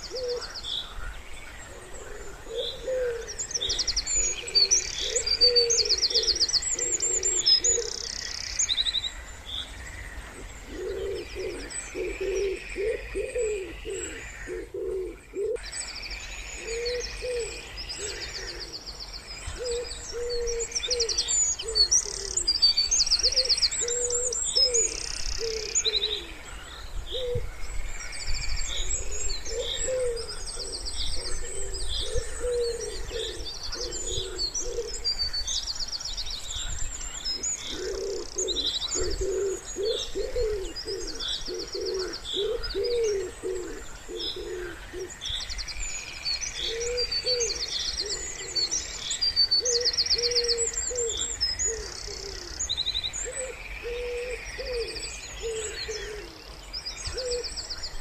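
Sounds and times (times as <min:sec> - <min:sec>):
wood pigeons cooing: 0:00.0 - 0:08.5, 0:10.2 - 0:15.6, 0:16.6 - 0:22.6, 0:23.2 - 0:27.7, 0:28.5 - 0:35.3, 0:37.2 - 0:45.6, 0:46.5 - 0:48.9, 0:49.5 - 0:57.6
songbirds chirping and trilling: 0:00.0 - 0:58.0.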